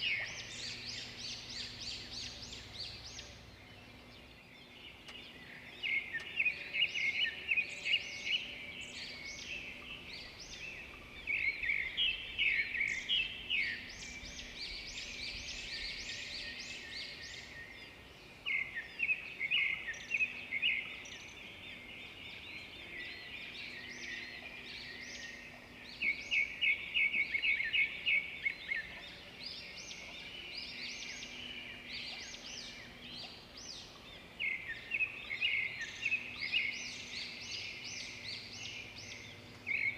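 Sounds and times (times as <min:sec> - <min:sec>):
faint bird chirping: 0:00.0 - 0:39.9
songbirds fast repeated notes: 0:00.0 - 0:39.9.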